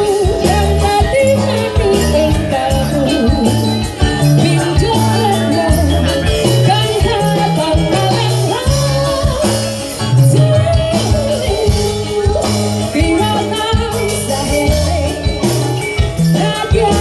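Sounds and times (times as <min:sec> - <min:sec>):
bass notes: 0:00.0 - 0:17.0
steady percussion: 0:00.0 - 0:17.0.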